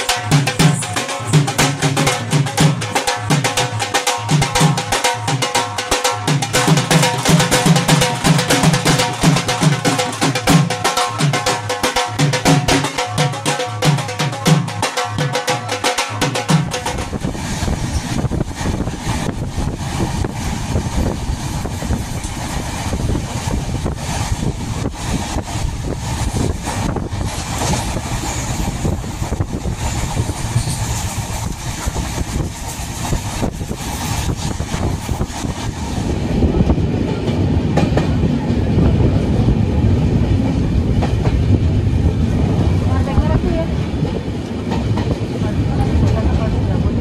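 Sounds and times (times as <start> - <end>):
rapid clacks of train wheels: 0.0 - 47.0
train wheels rumbling on rails: 0.0 - 47.0.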